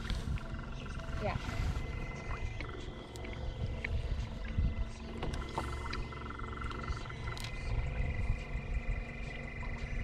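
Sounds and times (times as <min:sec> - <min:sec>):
steady low rumble: 0:00.0 - 0:10.0
water lapping against a hull: 0:00.0 - 0:10.0.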